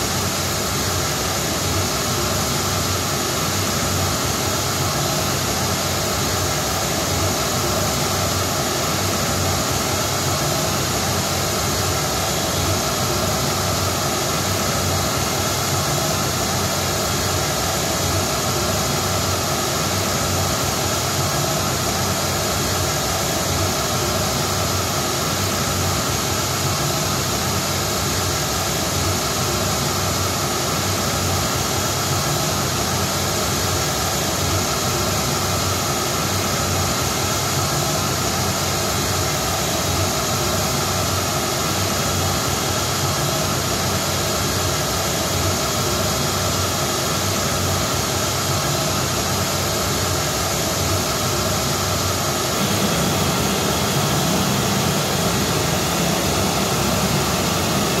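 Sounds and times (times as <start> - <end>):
pink noise through loudspeakers: 0.0 - 58.0.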